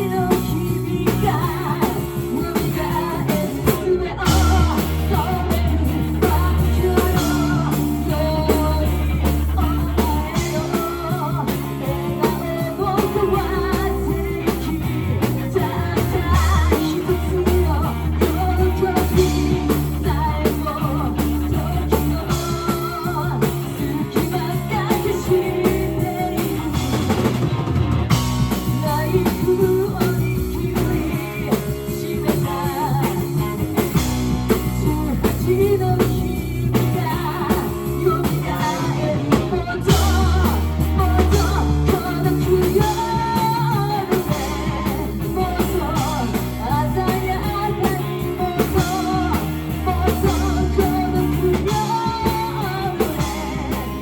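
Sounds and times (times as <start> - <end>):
person singing: 0.0 - 27.5, 28.2 - 54.0
bass guitar: 0.0 - 54.0
drum kit: 0.0 - 54.0
electric guitar: 0.0 - 54.0.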